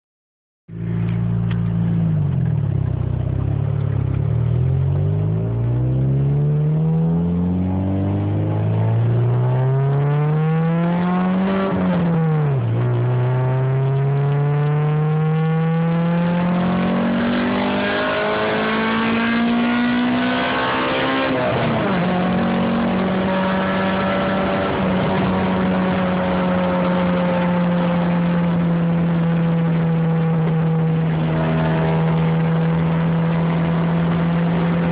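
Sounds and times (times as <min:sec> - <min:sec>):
car engine accelerating through gears: 0:00.8 - 0:34.9.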